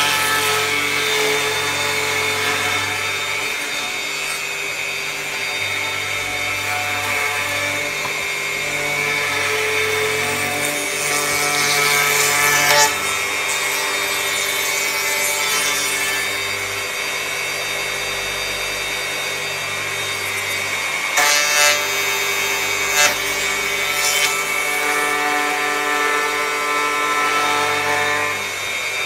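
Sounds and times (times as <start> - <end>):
electric hand planer shaving wood: 0.0 - 29.0.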